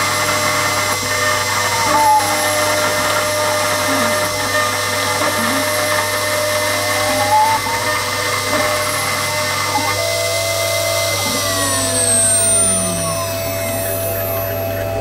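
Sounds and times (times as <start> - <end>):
engraving spindle whine: 0.0 - 15.0
sliding machine tones: 0.0 - 15.0.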